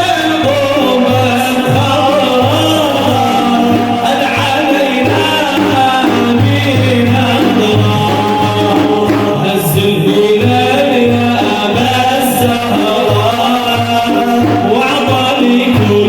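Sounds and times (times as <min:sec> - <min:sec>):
group singing devotional praise: 0:00.0 - 0:16.0
steady drum beat: 0:00.0 - 0:16.0.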